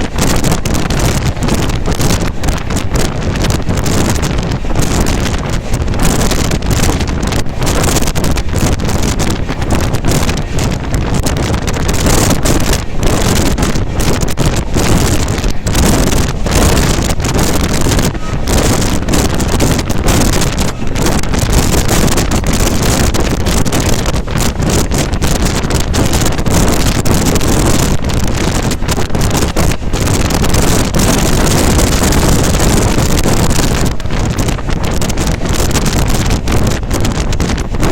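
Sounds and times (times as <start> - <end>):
train running at speed: 0.0 - 37.9
wind buffeting microphone: 0.0 - 37.9.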